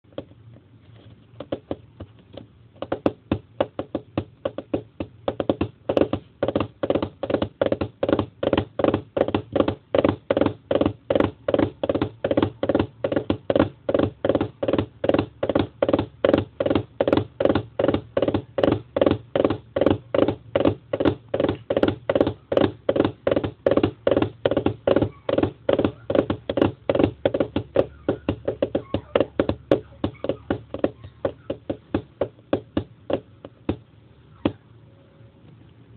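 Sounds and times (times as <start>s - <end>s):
galloping hoofbeat knocks: 0.0s - 0.6s, 1.3s - 34.6s.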